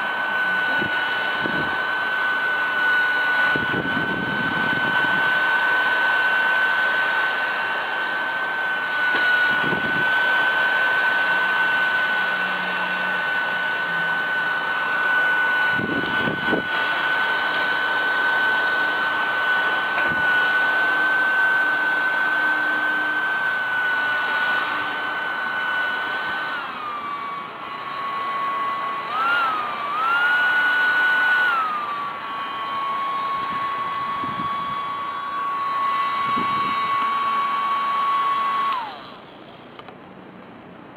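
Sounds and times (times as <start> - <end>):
small vacuum motor whine: 0.0 - 40.7.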